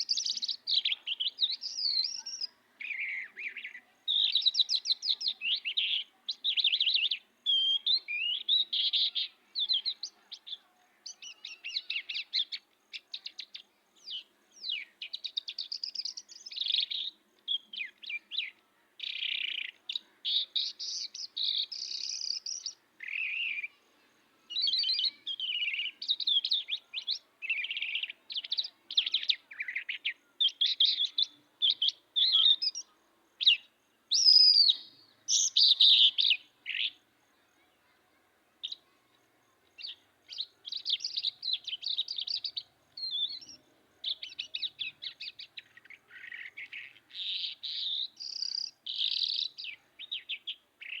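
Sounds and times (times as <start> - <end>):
songbird chirps and trills: 0.0 - 51.0.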